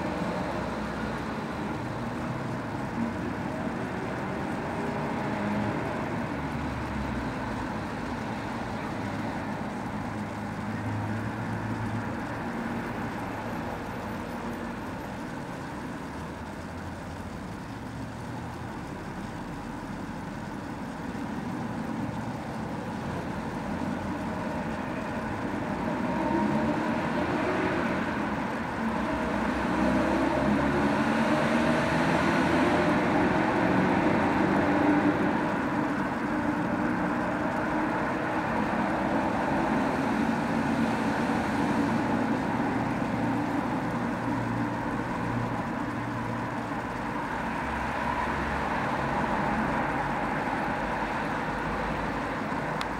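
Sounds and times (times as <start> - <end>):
traffic rumble: 0.0 - 52.9.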